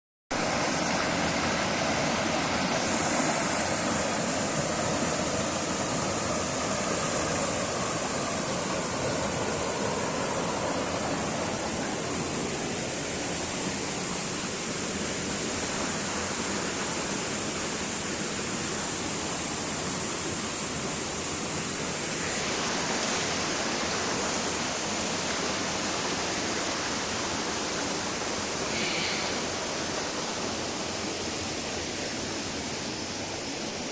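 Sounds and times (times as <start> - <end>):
flowing water: 0.3 - 33.9
high-pitched hiss: 0.4 - 33.9.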